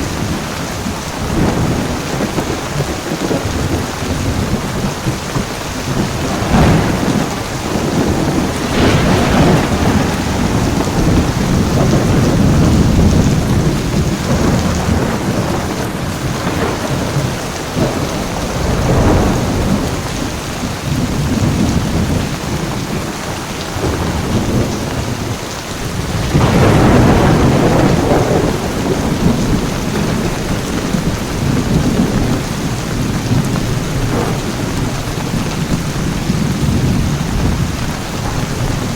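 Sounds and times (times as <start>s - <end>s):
heavy rain falling: 0.0s - 38.9s
thunder rumbling: 0.0s - 38.9s.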